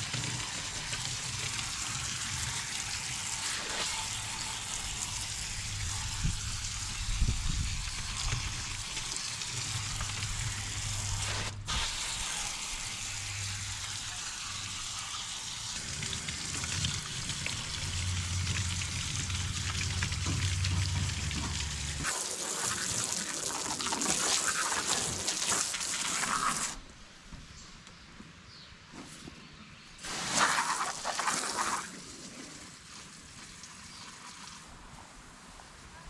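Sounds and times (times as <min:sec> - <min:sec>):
water spraying from garden hose: 0:00.0 - 0:26.8, 0:30.0 - 0:35.2.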